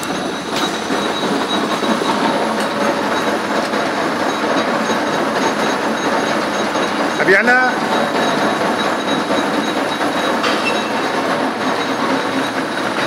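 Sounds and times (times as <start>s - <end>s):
machine steady mechanical rattle: 0.0s - 13.0s.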